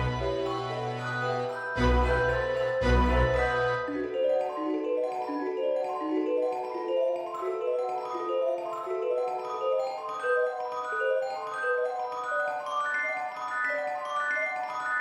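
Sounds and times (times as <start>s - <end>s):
mallet percussion melody: 0.0s - 15.0s.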